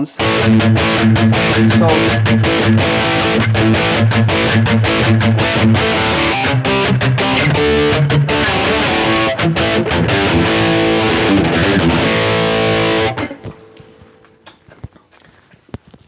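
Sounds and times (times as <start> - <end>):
distorted electric guitar riff: 0.0 - 14.5.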